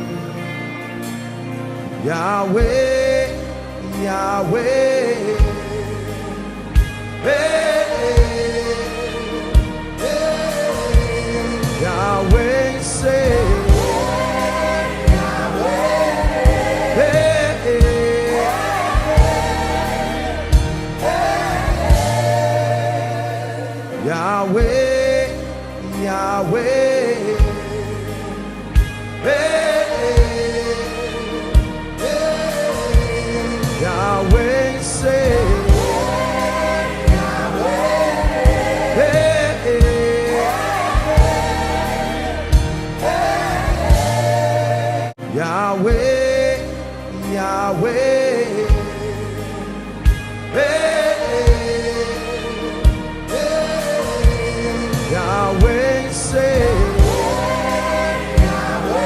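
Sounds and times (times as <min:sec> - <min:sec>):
band with bass: 0:00.0 - 0:59.0
voices singing: 0:02.0 - 0:59.0.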